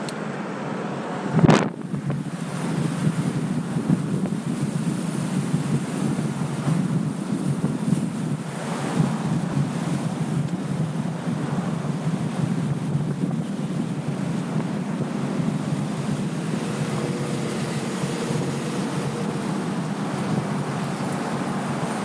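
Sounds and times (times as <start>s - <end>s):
road and tyre noise: 0.0s - 22.0s
wind rushing over microphone: 0.0s - 22.0s.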